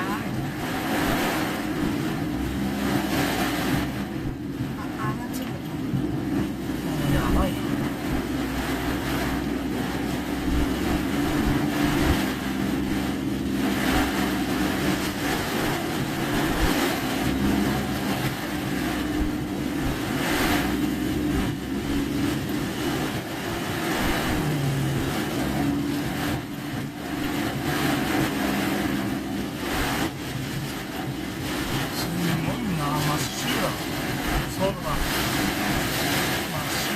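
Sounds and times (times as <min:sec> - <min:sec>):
car engine running: 0:00.0 - 0:36.9
heavy rain hissing: 0:00.0 - 0:36.9
tyres on wet road: 0:00.0 - 0:36.9.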